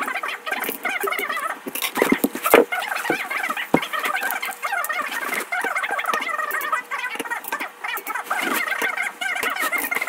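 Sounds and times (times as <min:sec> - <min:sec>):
birds chattering and warbling: 0:00.0 - 0:10.0.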